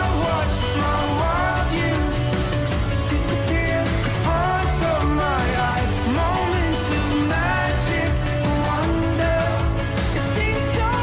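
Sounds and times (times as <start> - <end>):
pop music with bass beat: 0.0 - 11.0.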